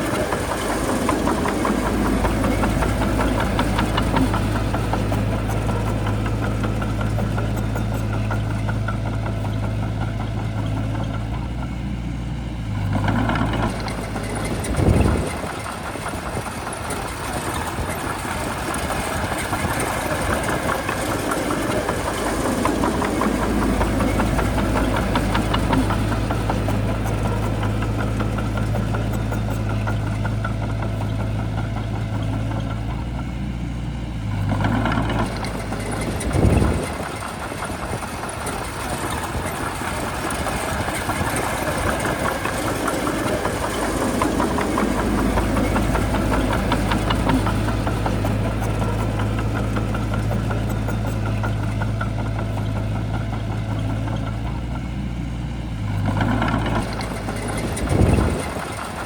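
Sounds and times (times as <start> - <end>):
continuous clattering: 0.0 - 11.8, 12.7 - 33.3, 34.3 - 54.9, 55.9 - 59.0
bulldozer diesel engine humming: 0.0 - 59.0.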